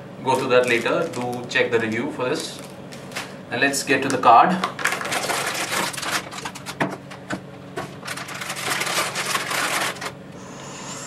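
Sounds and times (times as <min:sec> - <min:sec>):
plastic bag crinkling: 0:00.2 - 0:03.4, 0:04.0 - 0:10.2.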